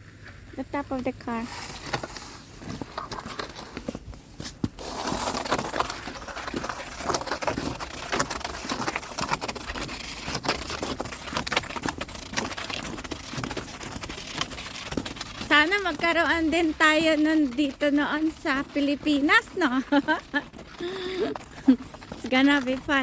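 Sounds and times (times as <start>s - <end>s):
footsteps crunching in snow: 0.0s - 23.0s.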